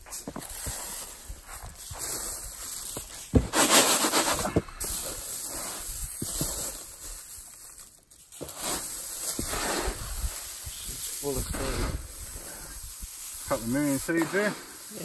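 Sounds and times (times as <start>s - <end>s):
seed pods rustling and crackling: 0.0s - 15.0s.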